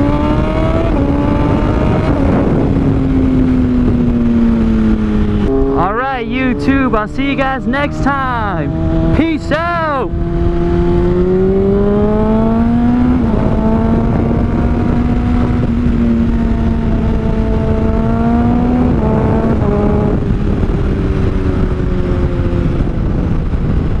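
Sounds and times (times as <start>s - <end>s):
motorcycle engine accelerating: 0.0s - 24.0s
wind noise: 0.0s - 24.0s.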